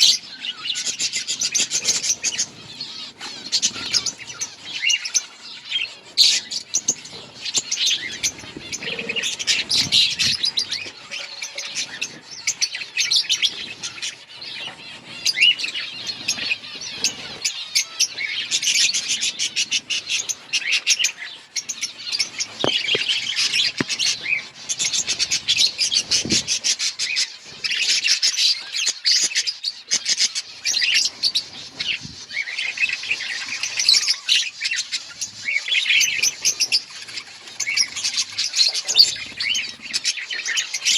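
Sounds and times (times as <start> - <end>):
budgerigars chirping and warbling: 0.0 - 40.9.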